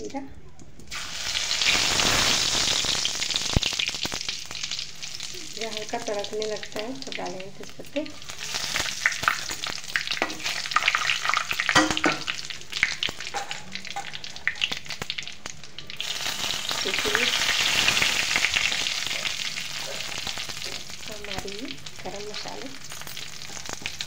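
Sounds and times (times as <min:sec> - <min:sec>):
seeds popping in hot oil: 0:00.1 - 0:24.0
oil sizzling: 0:00.8 - 0:24.0.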